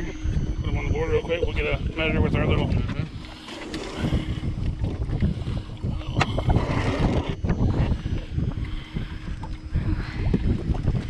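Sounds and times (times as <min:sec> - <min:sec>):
water lapping at hull: 0:00.0 - 0:11.0
wind buffeting microphone: 0:00.0 - 0:11.0.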